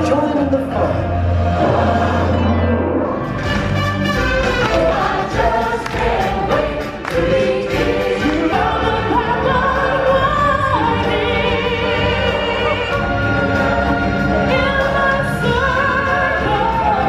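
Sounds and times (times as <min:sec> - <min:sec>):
choir singing: 0:00.7 - 0:03.4, 0:04.2 - 0:17.0.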